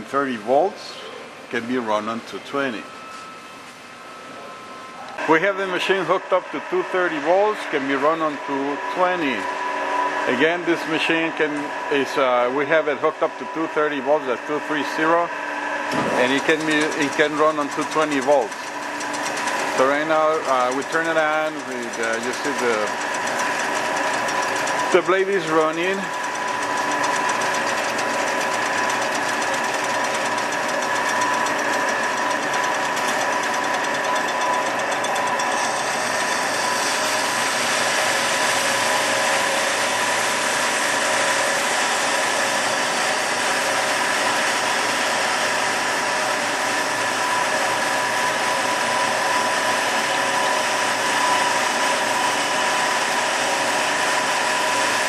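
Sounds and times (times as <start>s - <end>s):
band saw motor hum and whine: 0.0s - 55.0s.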